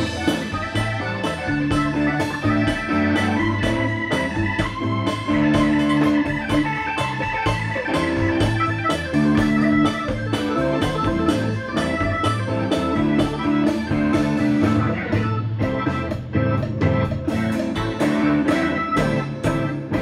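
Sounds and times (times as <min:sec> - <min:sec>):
latin rock band playing: 0:00.0 - 0:20.0
organ lead: 0:00.0 - 0:20.0.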